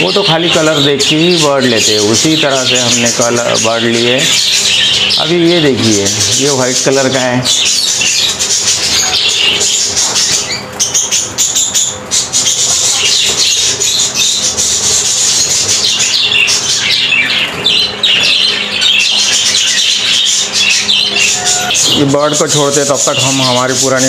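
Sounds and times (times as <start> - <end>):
budgerigars chattering and chirping: 0.0 - 24.0.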